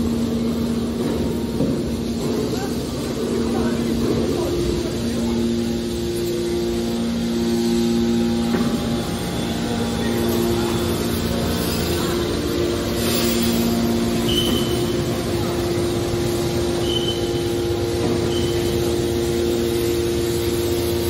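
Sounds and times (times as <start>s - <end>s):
hydraulic machine humming drone: 0.0s - 21.0s.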